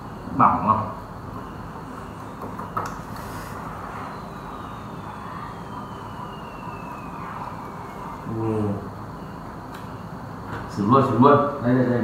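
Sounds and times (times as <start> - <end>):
faint whine falling in pitch: 0.0 - 12.0
steady background noise: 0.0 - 12.0.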